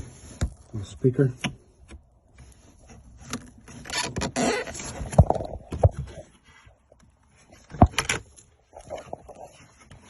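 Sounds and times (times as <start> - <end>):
plastic panel scraping and rustling: 0.0 - 10.0.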